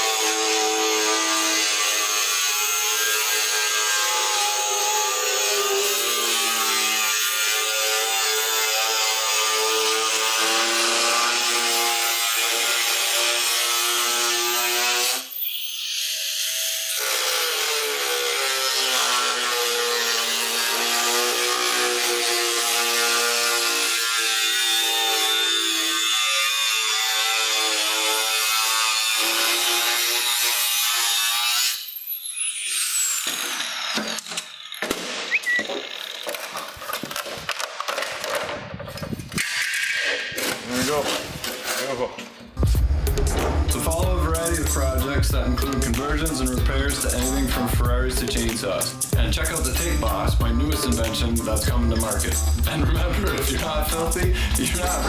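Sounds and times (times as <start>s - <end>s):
angle grinder cutting metal: 0.0s - 37.0s, 39.3s - 55.0s.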